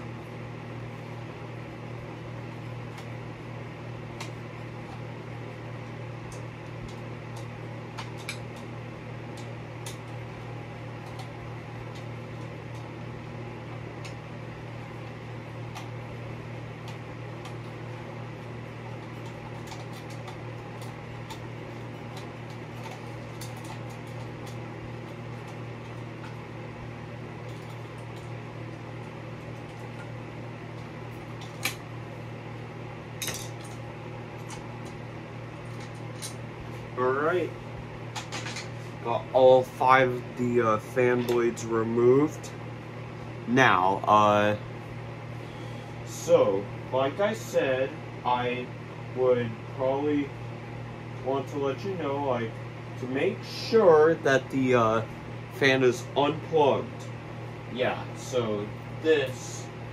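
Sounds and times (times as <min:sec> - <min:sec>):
steady room hum: 0:00.0 - 0:59.9.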